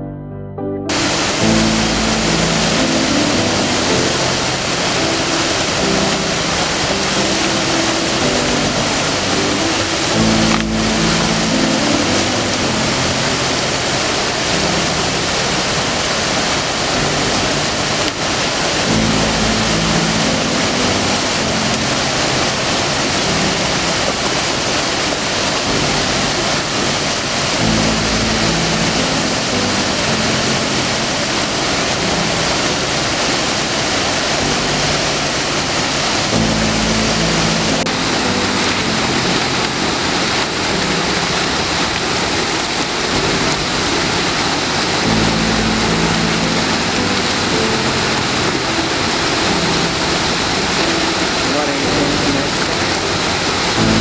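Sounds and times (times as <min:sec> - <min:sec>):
passenger train rolling noise: 0:00.9 - 0:54.0.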